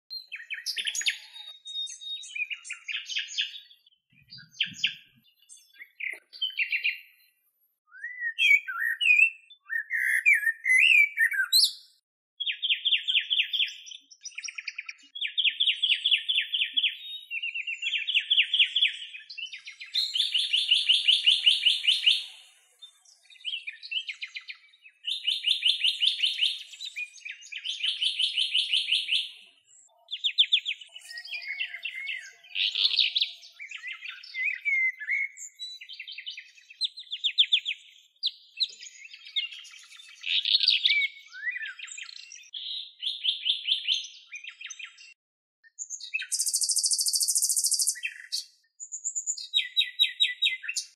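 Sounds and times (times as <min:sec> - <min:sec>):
songbirds singing: 0:00.1 - 0:50.9.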